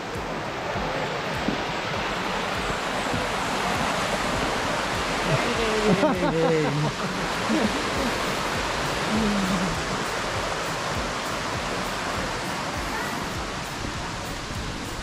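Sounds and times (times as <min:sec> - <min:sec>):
voices: 0:00.0 - 0:15.0
water rushing in rocky stream: 0:00.0 - 0:15.0.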